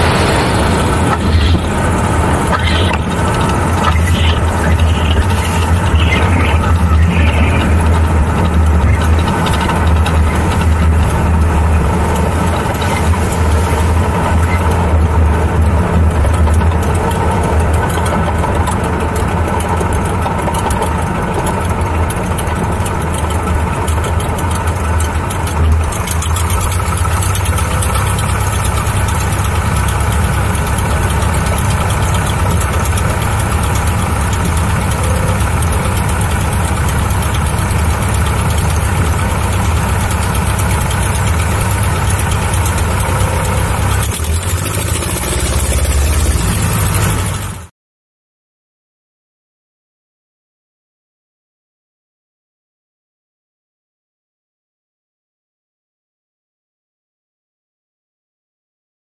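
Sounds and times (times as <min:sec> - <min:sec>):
light aircraft engine and propeller: 0:00.0 - 0:47.7.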